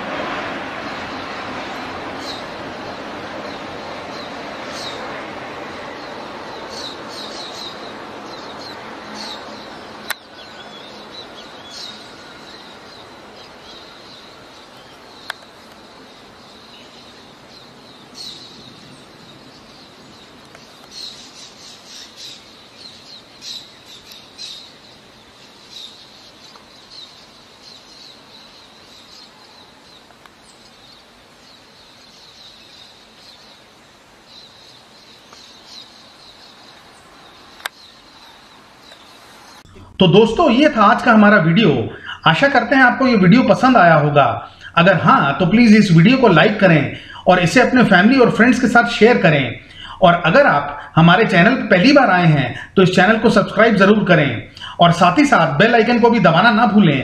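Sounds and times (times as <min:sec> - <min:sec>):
outdoor hiss: 0:00.0 - 0:57.0
small birds chirping: 0:00.8 - 0:57.0.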